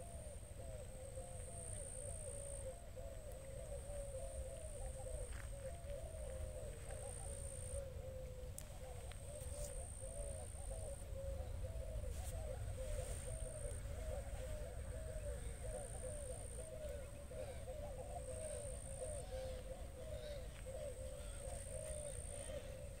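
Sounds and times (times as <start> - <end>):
chorus of animal calls: 0.0 - 23.0.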